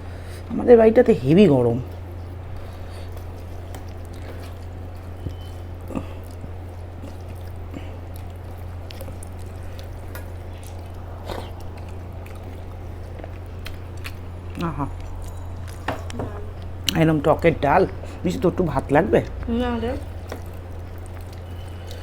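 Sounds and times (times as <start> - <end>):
air conditioner hum: 0.0 - 22.0
wet clicks of eating: 1.8 - 22.0.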